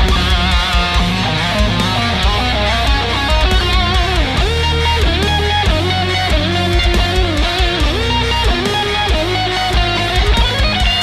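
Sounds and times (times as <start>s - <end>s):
electric guitar solo: 0.0s - 11.0s
heavy metal backing track: 0.0s - 11.0s.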